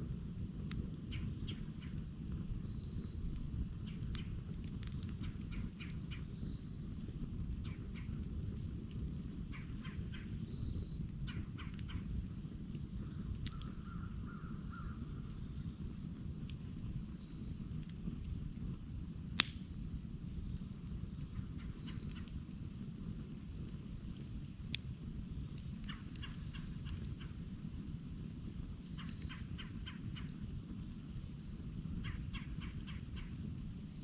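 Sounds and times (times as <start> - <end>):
campfire crackling: 0.0 - 34.0.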